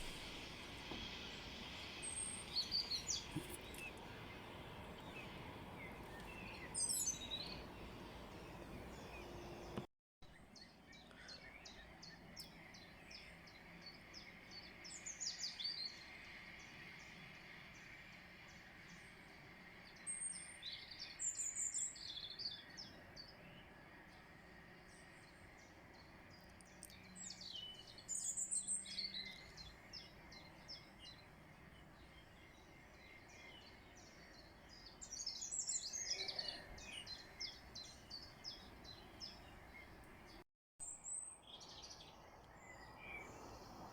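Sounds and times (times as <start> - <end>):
bird song phrases: 0.0 - 43.9
faint background noise: 0.0 - 43.9
songbirds chirping: 0.0 - 43.9.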